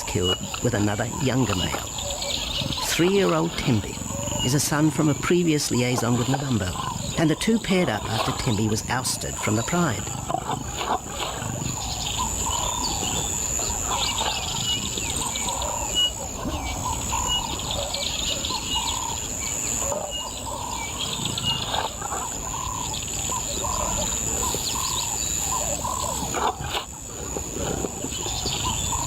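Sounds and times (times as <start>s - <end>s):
bird calls and chirps: 0.0s - 29.0s.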